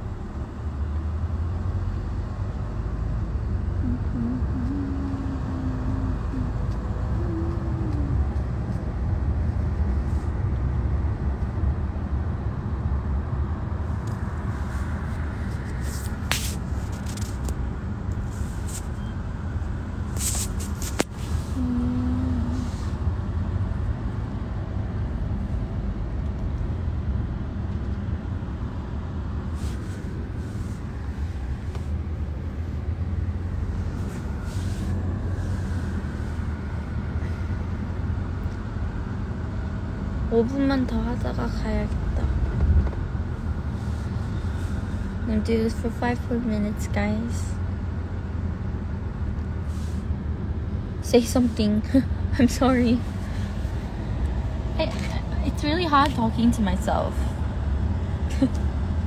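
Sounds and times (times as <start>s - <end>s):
vehicle cabin road rumble: 0.0s - 59.0s.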